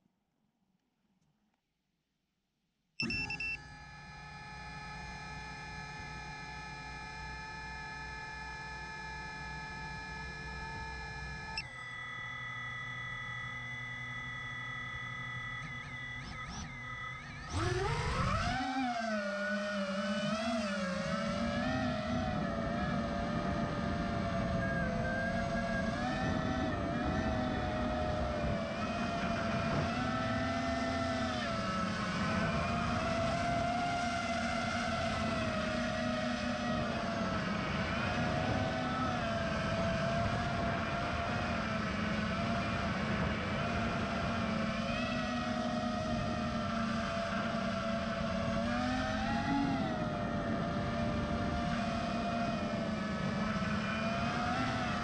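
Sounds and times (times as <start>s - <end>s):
quadcopter motors buzzing whine: 3.0s - 55.0s.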